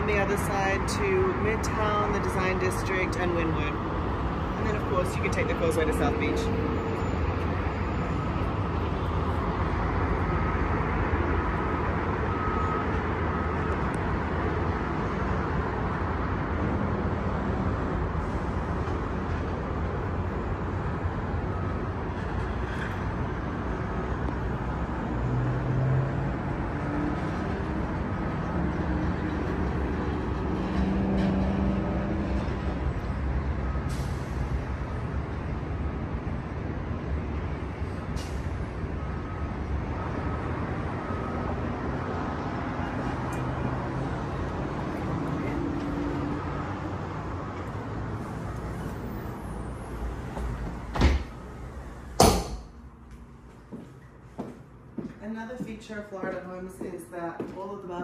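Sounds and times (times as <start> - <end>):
distant city traffic: 0.0 - 58.0.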